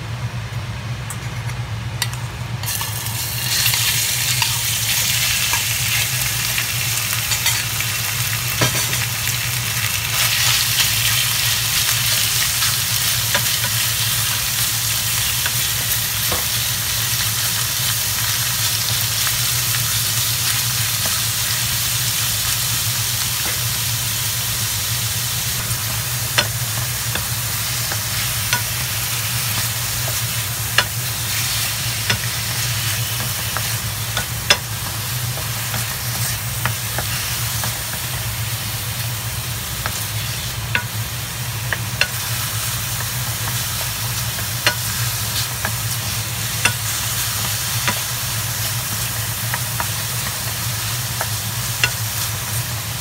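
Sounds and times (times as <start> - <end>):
steady low hum: 0.0 - 53.0
chicken sizzling in frying pan: 2.0 - 53.0.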